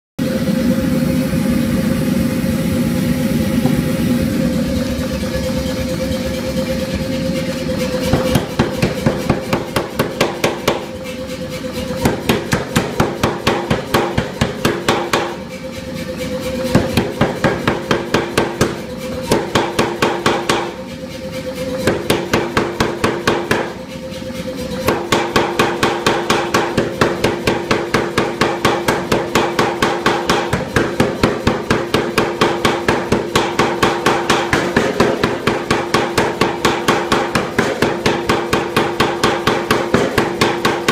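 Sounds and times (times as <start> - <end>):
steady hum: 0.2 - 40.9
power hammer striking metal: 5.0 - 40.9.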